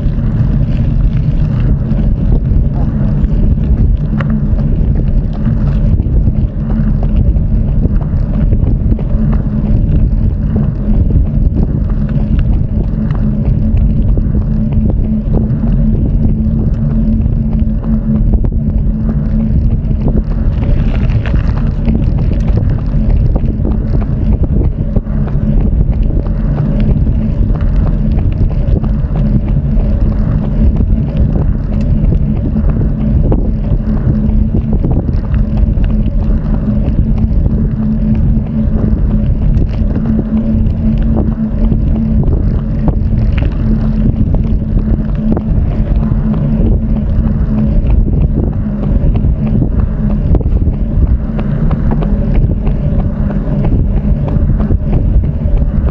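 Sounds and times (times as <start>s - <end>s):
steady low hum: 0.0s - 55.9s
wind buffeting microphone: 0.0s - 55.9s.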